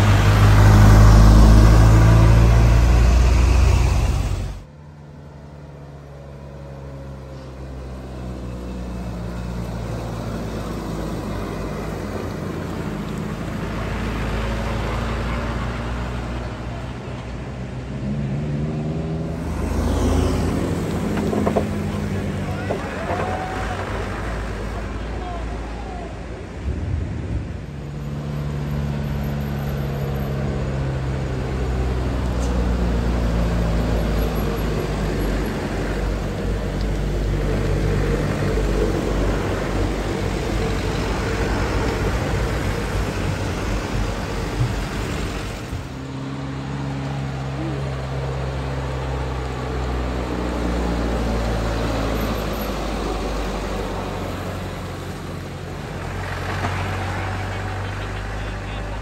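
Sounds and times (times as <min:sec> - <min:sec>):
truck diesel engines droning: 0:00.0 - 0:59.0.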